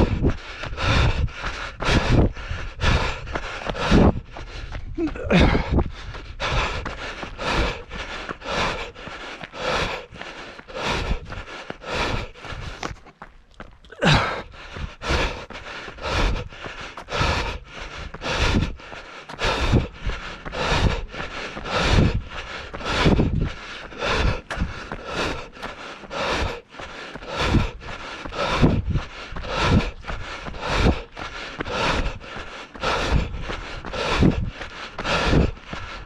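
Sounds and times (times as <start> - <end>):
heavy rhythmic breathing: 0.0 - 36.0
voiced gasp: 4.6 - 12.9, 13.9 - 35.8.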